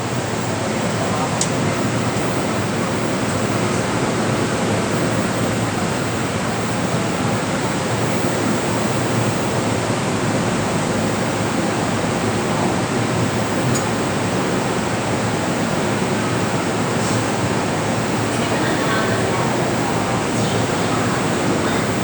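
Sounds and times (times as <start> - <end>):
electric train running: 0.0 - 22.0.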